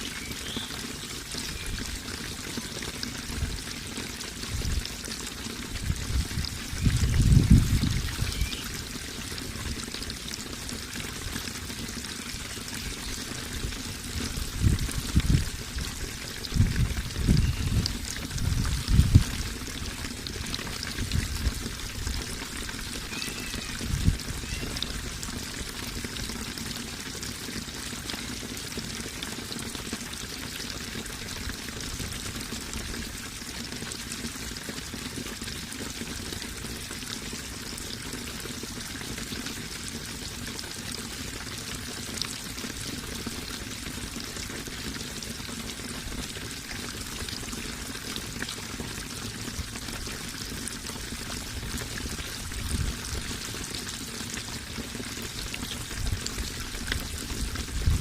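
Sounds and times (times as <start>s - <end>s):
water pouring and trickling: 0.0s - 58.0s.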